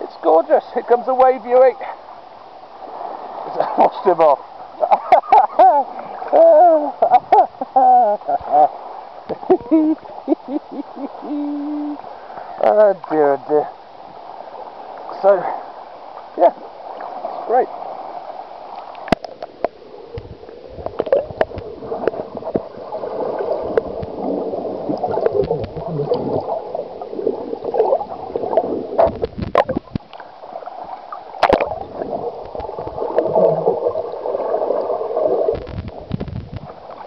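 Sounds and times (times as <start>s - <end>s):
water sloshing and gurgling: 0.0s - 37.0s.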